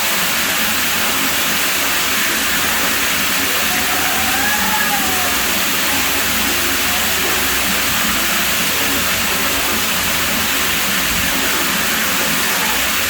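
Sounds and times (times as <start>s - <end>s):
pool water running: 0.0s - 13.0s.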